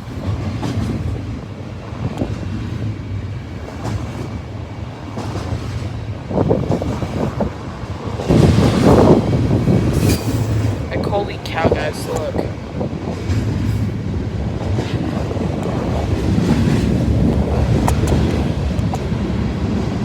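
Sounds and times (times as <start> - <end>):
train passing rumble: 0.0 - 20.0
wind buffeting microphone: 0.0 - 20.0.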